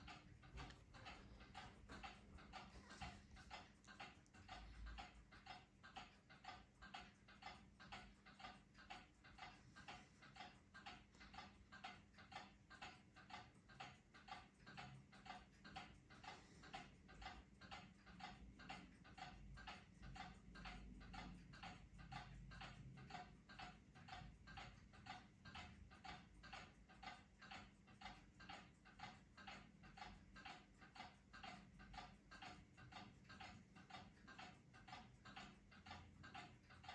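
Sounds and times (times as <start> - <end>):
ceiling fan ticking and humming: 0.0 - 36.9.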